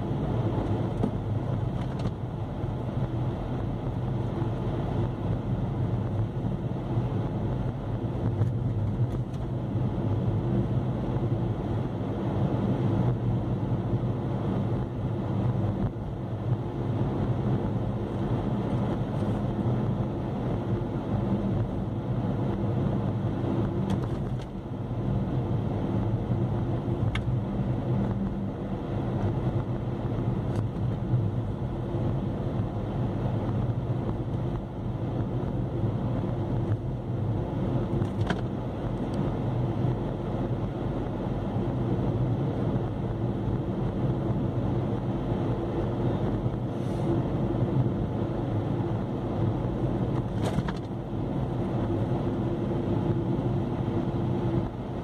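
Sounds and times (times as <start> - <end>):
vehicle engine and road hum: 0.0 - 55.0.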